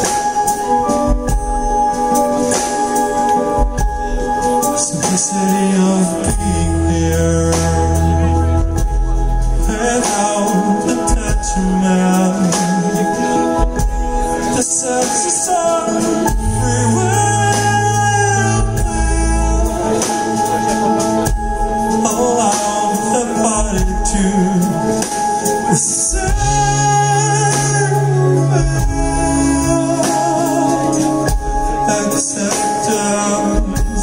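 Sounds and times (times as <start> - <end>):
drums with cymbals: 0.0 - 34.0
keyboards: 0.0 - 34.0
low bass notes: 0.0 - 34.0
man singing into microphone: 4.2 - 34.0.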